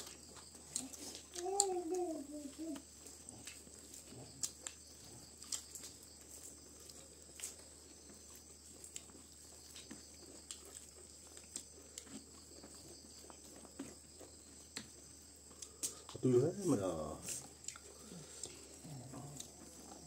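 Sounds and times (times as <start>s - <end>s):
chewing clicks and smacks: 0.0s - 1.8s, 2.5s - 16.2s, 17.3s - 20.0s.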